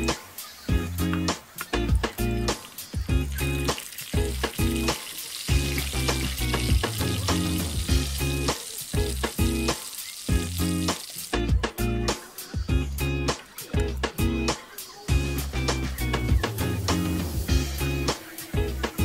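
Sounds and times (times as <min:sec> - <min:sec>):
food frying in bubbling oil: 0:00.0 - 0:12.6, 0:13.5 - 0:19.0
background music: 0:00.0 - 0:19.0.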